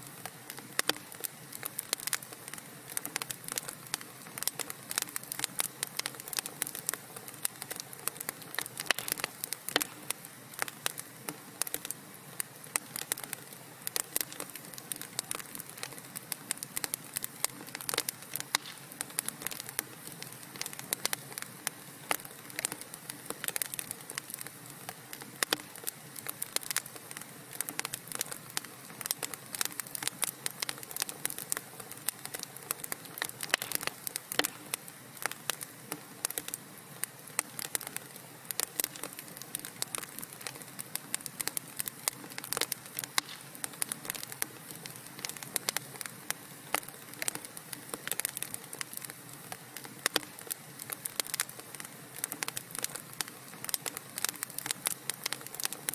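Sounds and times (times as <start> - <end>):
soft hiss of burning: 0.0 - 55.9
wood fire sharp pops: 0.2 - 55.9.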